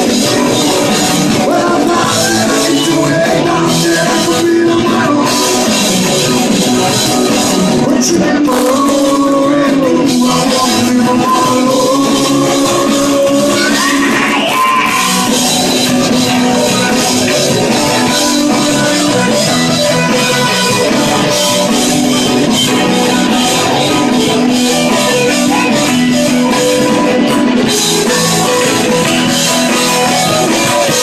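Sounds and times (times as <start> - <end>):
drum kit steady beat: 0.0 - 31.0.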